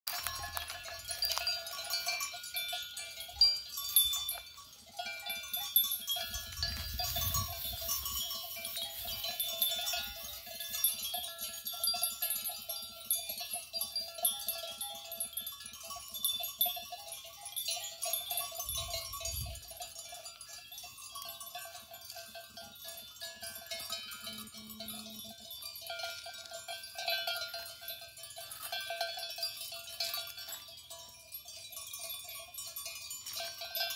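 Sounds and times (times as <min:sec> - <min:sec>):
goat bells clinking: 0:00.0 - 0:33.9.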